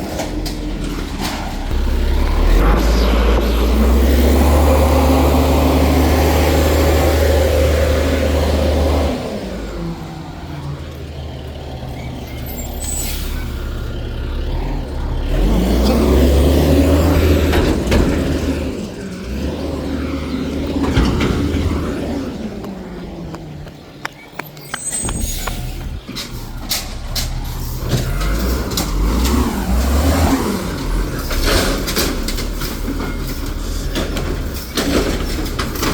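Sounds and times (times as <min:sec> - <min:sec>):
garbage truck engine revving: 0:00.0 - 0:35.9.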